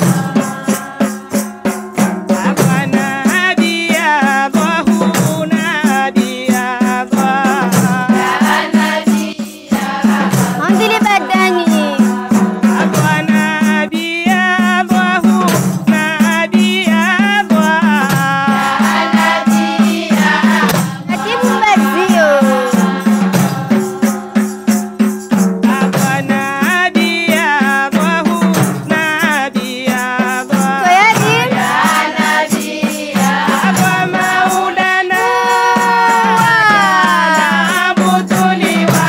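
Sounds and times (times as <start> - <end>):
women singing together: 0.0 - 15.0, 16.2 - 39.0
frame drum beating: 0.0 - 39.0
jingle tambourines: 0.0 - 39.0.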